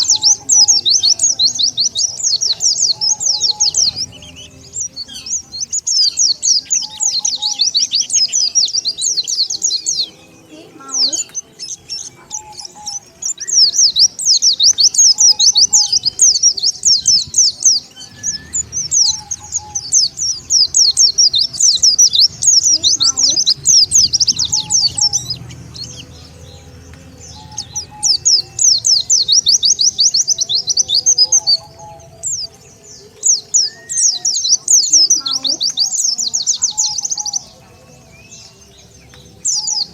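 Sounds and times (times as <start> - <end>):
bird twittering rapidly: 0.0 - 37.6.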